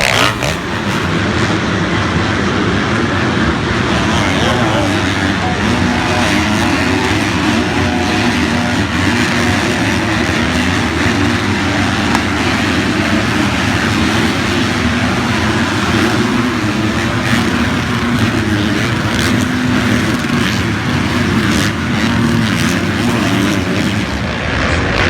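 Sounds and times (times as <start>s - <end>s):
motocross bike engines: 0.0s - 25.0s.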